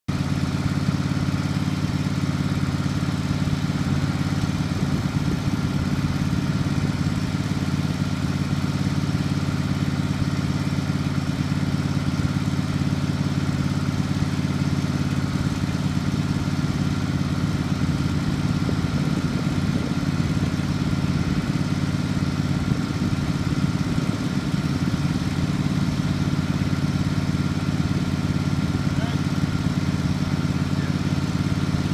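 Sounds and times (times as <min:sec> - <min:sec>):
mower engine running: 0:00.1 - 0:31.9.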